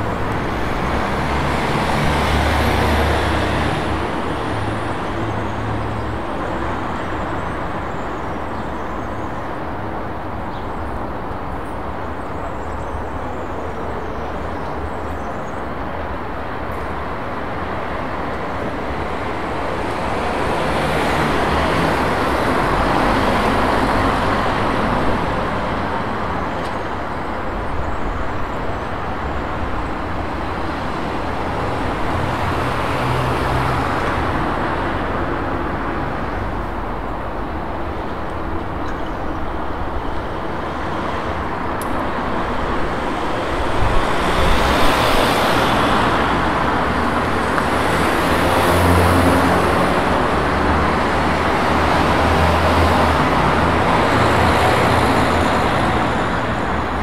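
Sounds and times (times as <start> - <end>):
passing cars: 0.0 - 57.0.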